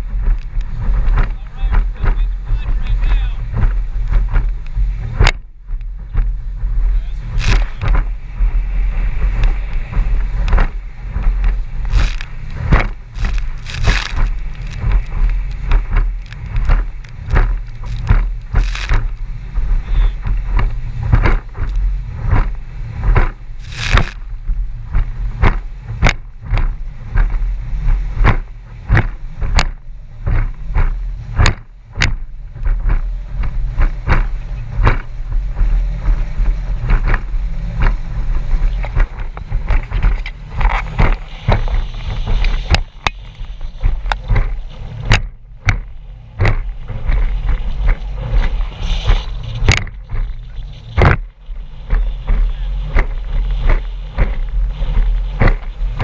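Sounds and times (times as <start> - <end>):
boat hull banging on waves: 0.0 - 56.0
outboard motor running: 0.0 - 56.0.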